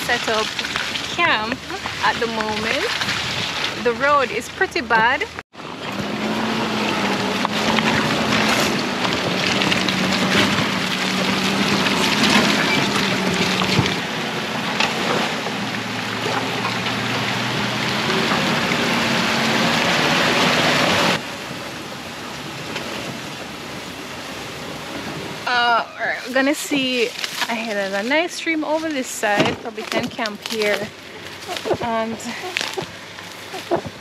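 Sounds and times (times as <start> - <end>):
vehicle engine hum: 0.0 - 34.0.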